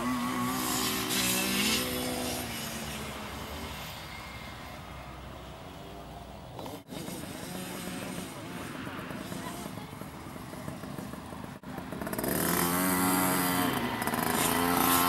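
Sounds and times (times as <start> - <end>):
motocross bike engine: 0.0 - 15.0.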